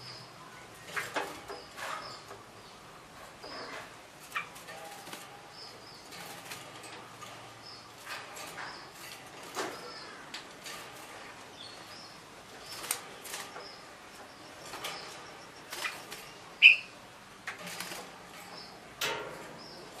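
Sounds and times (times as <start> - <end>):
bird chirping: 0.0 - 20.0
bird moving in cage: 0.8 - 2.4, 3.2 - 16.7, 17.4 - 20.0.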